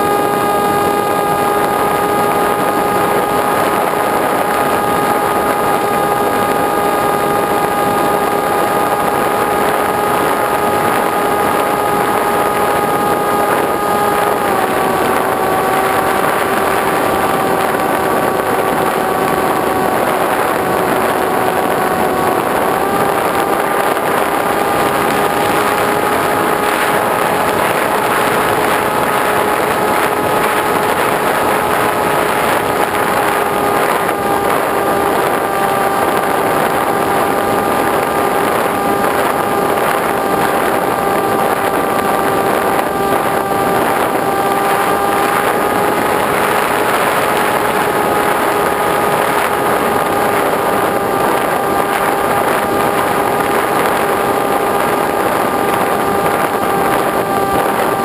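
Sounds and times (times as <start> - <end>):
model plane motor droning: 0.0 - 58.0
rushing wind noise: 0.0 - 58.0.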